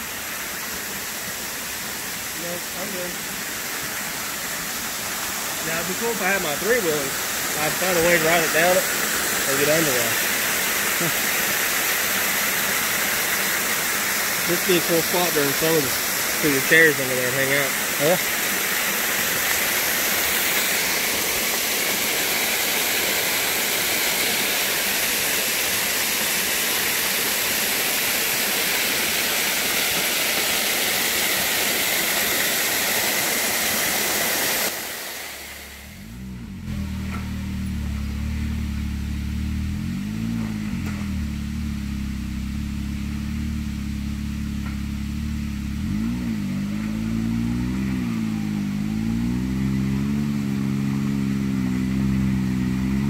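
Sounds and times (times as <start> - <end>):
waterfall splashing into pool: 0.0 - 36.1, 36.7 - 53.0
vehicle engine running with revs: 0.0 - 53.0.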